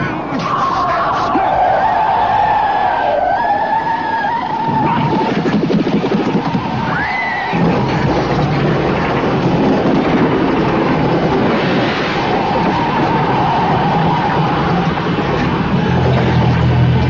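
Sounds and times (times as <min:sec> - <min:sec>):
heavy continuous rumble: 0:00.0 - 0:17.0.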